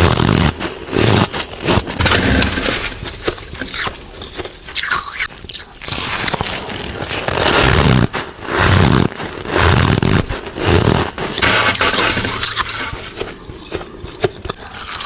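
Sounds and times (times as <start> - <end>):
biting and chewing frost: 0.0 - 15.0.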